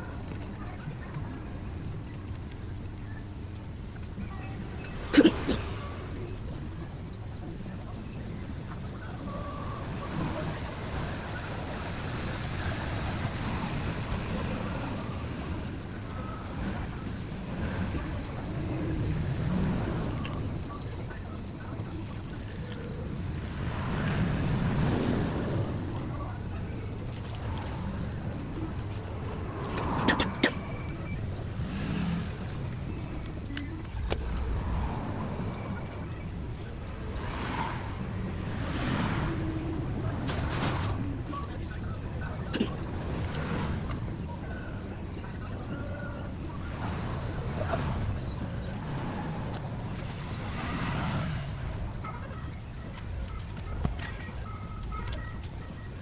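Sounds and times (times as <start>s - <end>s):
low background rumble: 0.0s - 56.0s.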